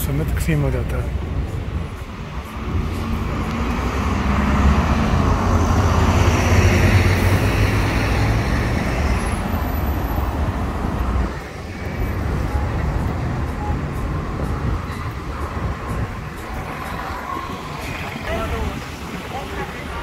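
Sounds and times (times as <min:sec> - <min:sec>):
heavy vehicle engine rumble: 0:00.0 - 0:20.0.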